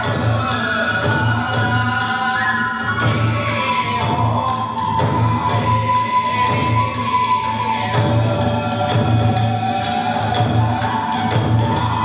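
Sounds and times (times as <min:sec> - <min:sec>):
bamboo flute melody: 0:00.0 - 0:12.0
hand cymbals clashing: 0:00.0 - 0:12.0
steady drumming: 0:00.0 - 0:12.0.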